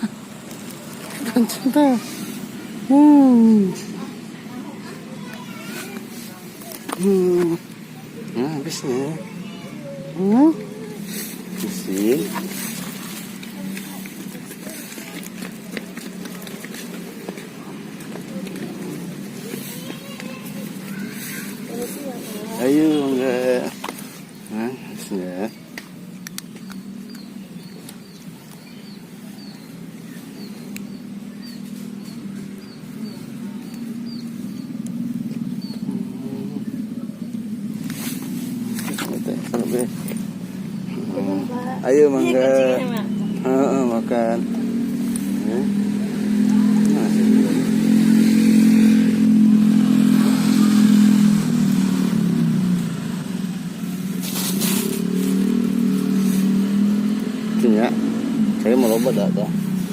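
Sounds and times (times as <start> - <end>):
bird chirping: 0.0 - 48.3
vehicle engine humming: 0.0 - 59.9.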